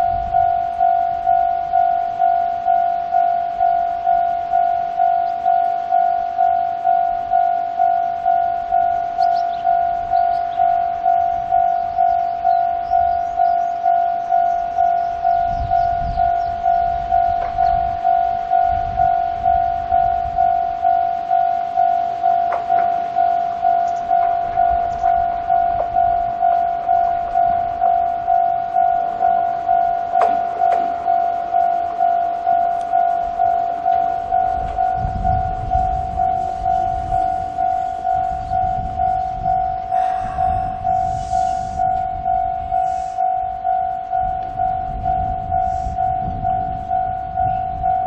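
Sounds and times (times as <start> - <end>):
level crossing warning bell: 0.0 - 48.0.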